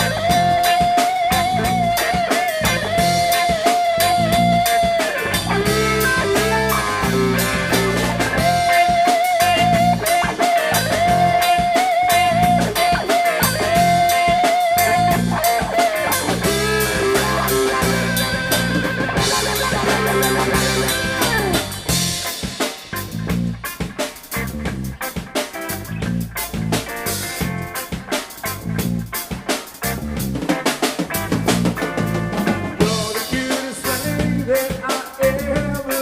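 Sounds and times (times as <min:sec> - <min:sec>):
bass guitar: 0:00.0 - 0:36.0
electric guitar lead: 0:00.0 - 0:36.0
steady drum beat: 0:00.0 - 0:36.0.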